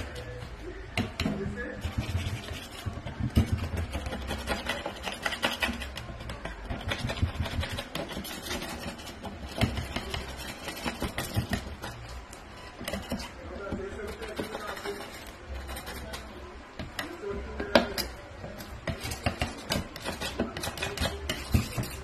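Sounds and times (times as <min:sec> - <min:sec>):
metal scraper scraping wood: 0:01.1 - 0:12.0, 0:12.6 - 0:17.1, 0:17.8 - 0:22.0.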